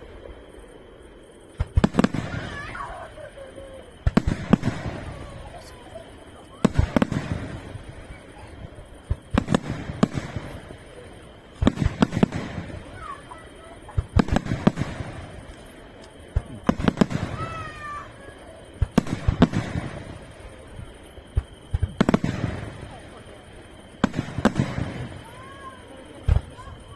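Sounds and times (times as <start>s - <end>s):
fireworks bangs with echo: 1.5s - 26.9s.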